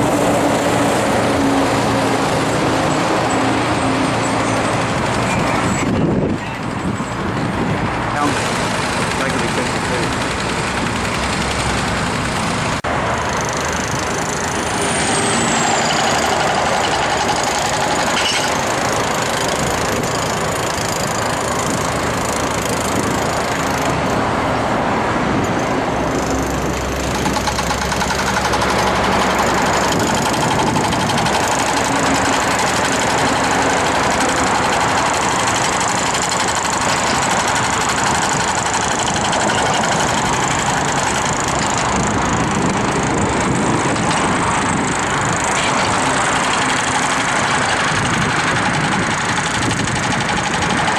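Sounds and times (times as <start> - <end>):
road vehicle noise: 0.0 - 50.9.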